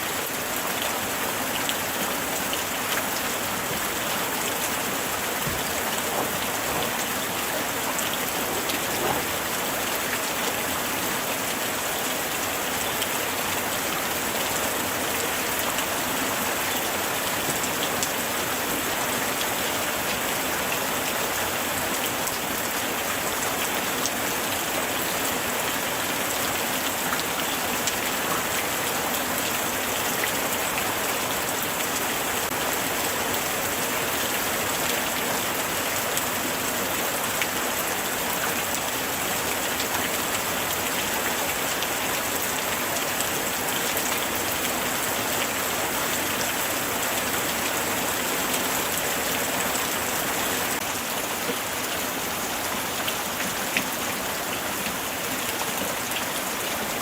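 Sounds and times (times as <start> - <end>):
light rain falling: 0.0 - 57.0
raindrops ticking on surfaces: 0.1 - 57.0.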